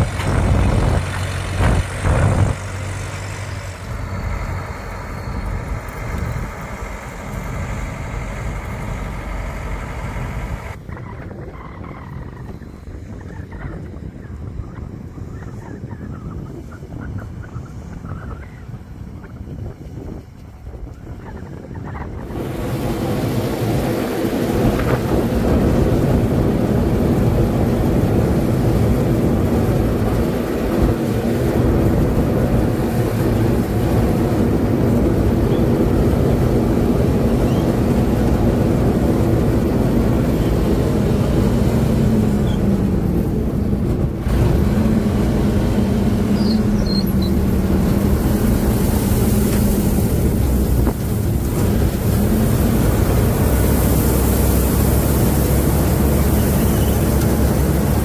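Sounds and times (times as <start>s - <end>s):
threshing machinery noise: 0.0s - 11.5s, 19.9s - 58.0s
combine harvester engine drone: 0.0s - 58.0s.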